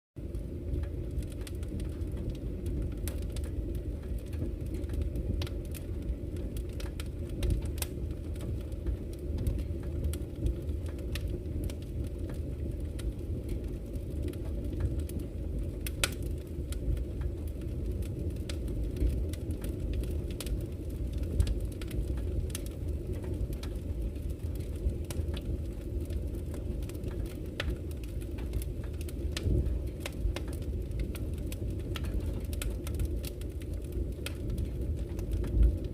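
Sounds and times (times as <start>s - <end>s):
campfire crackling and popping: 0.2s - 35.9s.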